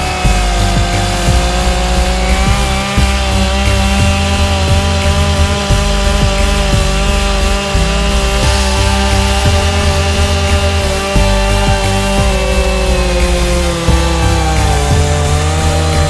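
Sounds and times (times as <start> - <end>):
background music with beat: 0.0 - 16.0
chainsaw cutting wood: 0.0 - 16.0.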